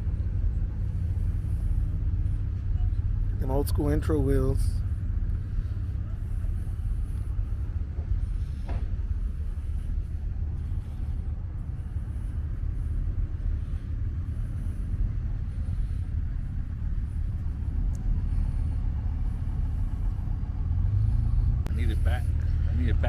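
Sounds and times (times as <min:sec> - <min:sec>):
faint outdoor background noise: 0:00.0 - 0:23.0
steady low rumble: 0:00.0 - 0:23.0.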